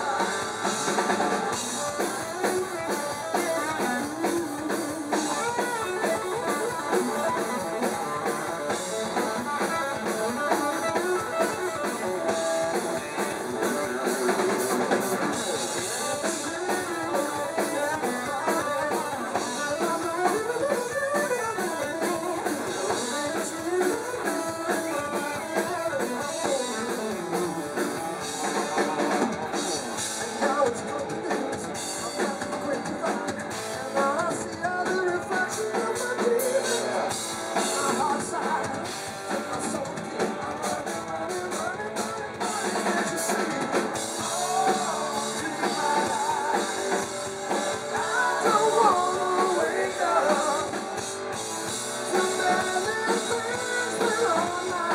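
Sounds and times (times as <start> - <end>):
bass guitar: 0.0 - 54.9
drum kit: 0.0 - 54.9
electric guitar: 0.0 - 54.9.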